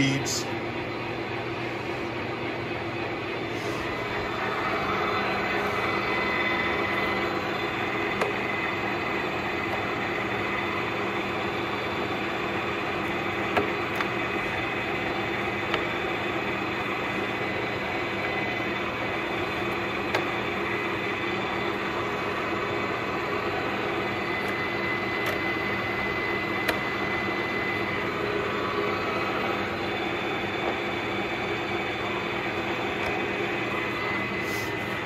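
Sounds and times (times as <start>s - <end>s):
lathe running: 0.0s - 35.0s.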